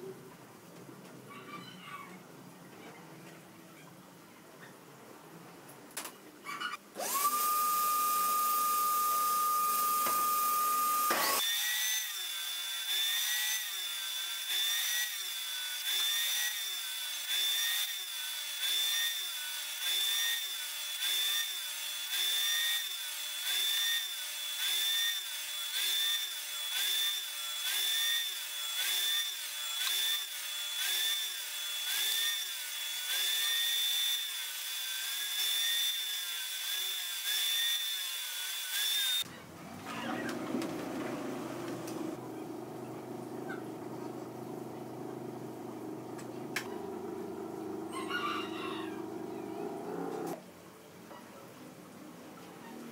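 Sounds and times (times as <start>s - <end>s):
table saw cutting wood: 7.0s - 50.4s.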